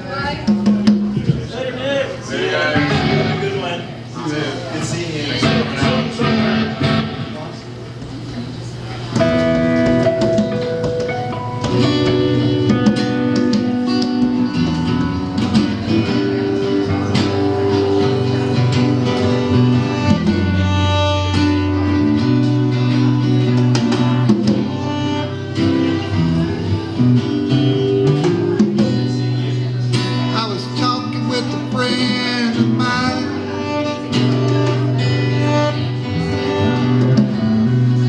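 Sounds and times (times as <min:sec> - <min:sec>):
live band playing with guitar: 0:00.0 - 0:38.0.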